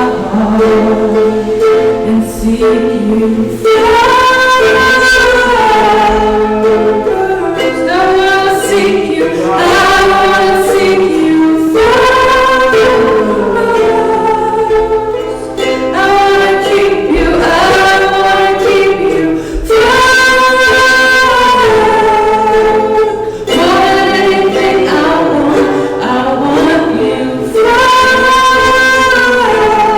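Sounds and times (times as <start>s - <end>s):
voices singing together: 0.0s - 29.9s.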